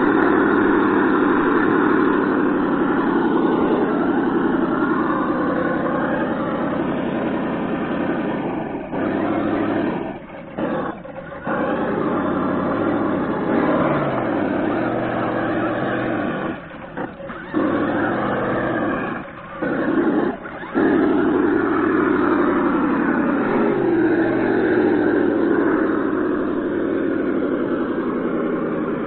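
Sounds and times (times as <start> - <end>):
simulated engine revving: 0.0 - 29.0.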